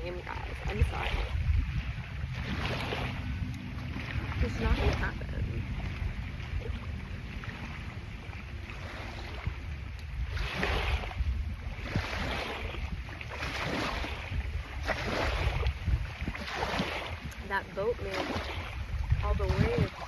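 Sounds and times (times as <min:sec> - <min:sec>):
waves washing onto shore: 0:00.0 - 0:20.0
wind rumble on microphone: 0:00.0 - 0:20.0.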